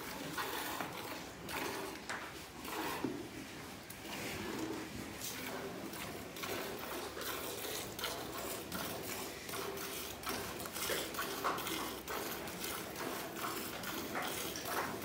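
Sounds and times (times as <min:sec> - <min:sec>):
milk squirting into steel pail: 0:00.1 - 0:03.2, 0:04.0 - 0:15.0.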